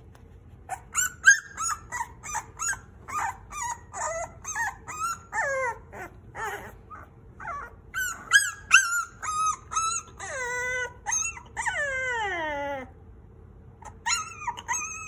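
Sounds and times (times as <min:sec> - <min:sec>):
puppies whimpering and crying: 0:00.7 - 0:13.0, 0:13.8 - 0:15.0.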